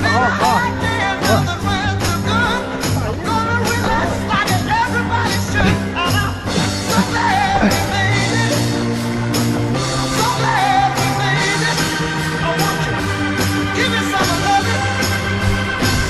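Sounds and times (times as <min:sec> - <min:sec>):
rock music with sung vocal: 0:00.0 - 0:16.0.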